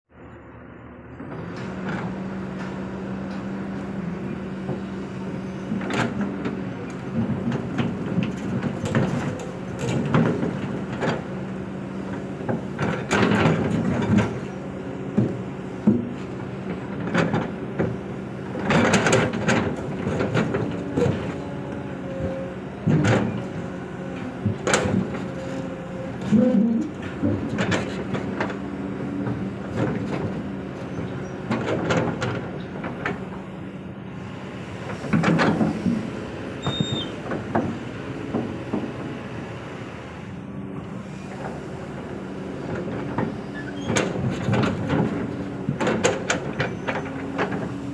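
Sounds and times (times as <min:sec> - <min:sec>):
excavator diesel engine running: 0:00.1 - 0:47.9
excavator bucket clanks and thuds: 0:05.5 - 0:33.6, 0:34.2 - 0:39.2, 0:40.7 - 0:47.9.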